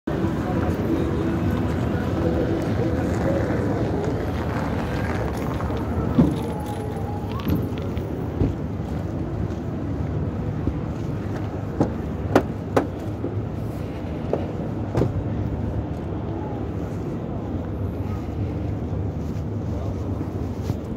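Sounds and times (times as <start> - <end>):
street traffic rumble: 0.1 - 20.9.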